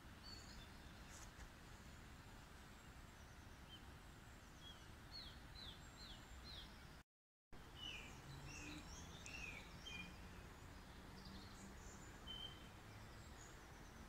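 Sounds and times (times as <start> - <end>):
birds chirping: 0.0 - 7.0, 7.6 - 14.0.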